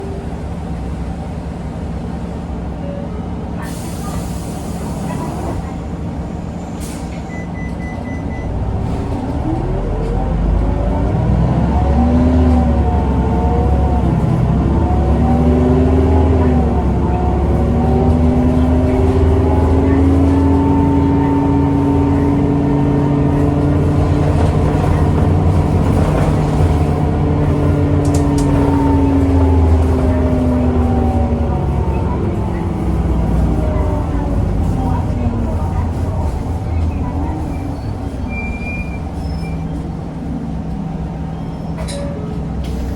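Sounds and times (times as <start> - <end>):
diesel bus engine: 0.0 - 42.9.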